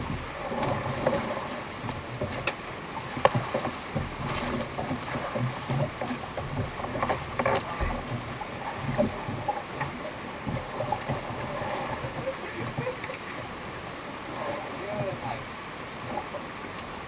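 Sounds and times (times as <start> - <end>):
knocks and clicks on boat: 0.0 - 17.0
water washing against hull: 0.0 - 17.0.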